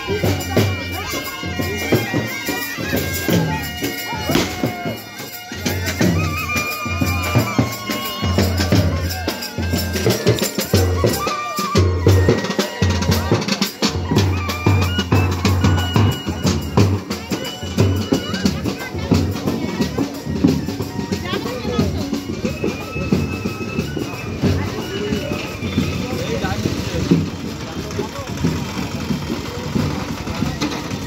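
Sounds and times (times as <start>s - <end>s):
reedy wind instrument melody: 0.0s - 27.6s
drum beats: 0.0s - 31.0s.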